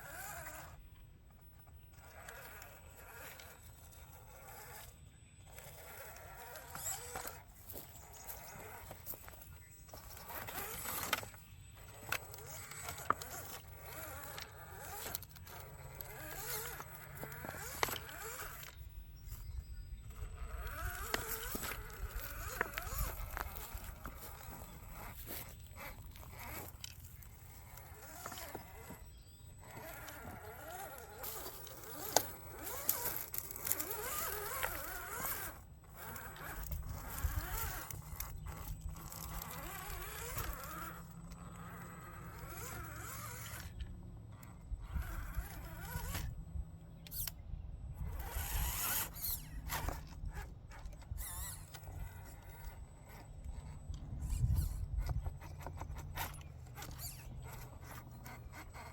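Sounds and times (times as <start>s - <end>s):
small electric motor whining: 0.0s - 58.9s
tyres clicking and scraping: 0.0s - 58.9s.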